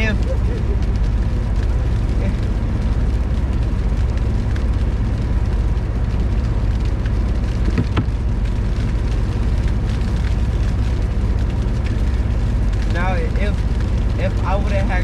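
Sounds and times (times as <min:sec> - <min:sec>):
car engine and exhaust rumbling: 0:00.0 - 0:15.0.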